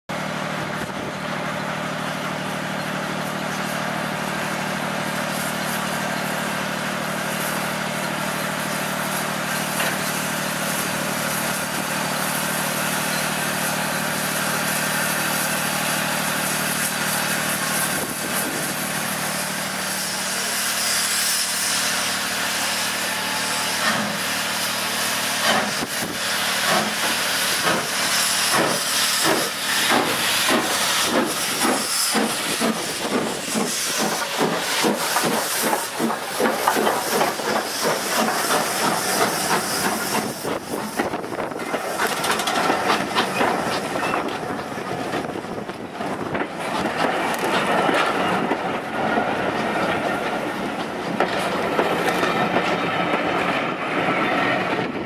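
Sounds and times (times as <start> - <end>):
locomotive exhaust chuffs: 0.2 - 53.5
steam locomotive hissing: 0.5 - 55.0.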